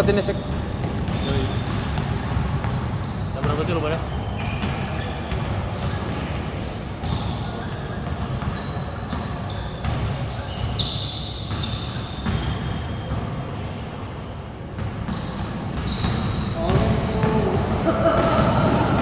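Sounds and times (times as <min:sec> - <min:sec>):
basketballs bouncing on hard court: 0:00.0 - 0:13.4, 0:14.7 - 0:19.0
sneaker squeaks: 0:00.0 - 0:13.8, 0:14.7 - 0:19.0.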